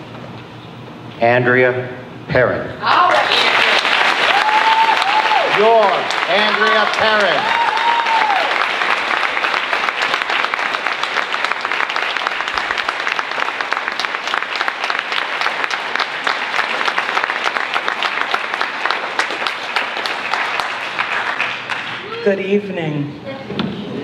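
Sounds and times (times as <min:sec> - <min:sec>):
audience applauding: 0:02.9 - 0:22.3.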